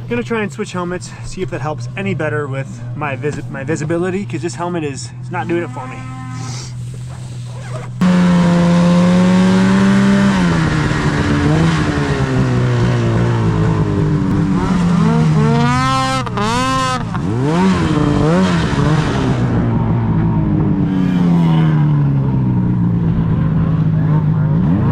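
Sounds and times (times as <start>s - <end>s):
snowmobile engine revving: 1.8s - 24.9s.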